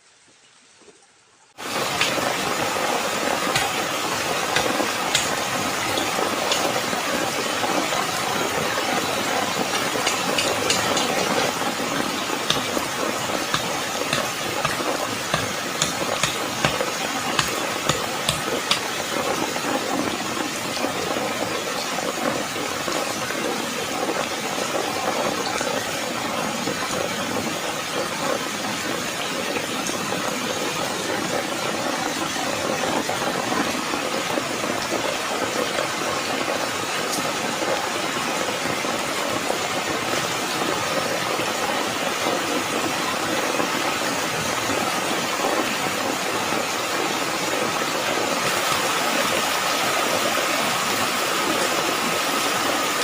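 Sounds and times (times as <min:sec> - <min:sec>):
heavy rain falling: 0:01.5 - 0:53.0.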